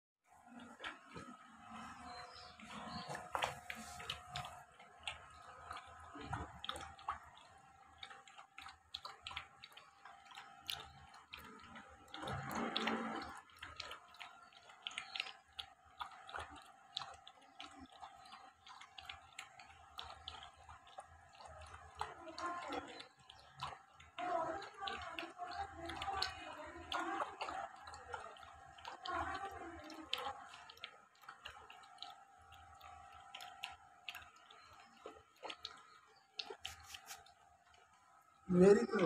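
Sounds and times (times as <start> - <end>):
puppy lapping milk: 0.3 - 39.0.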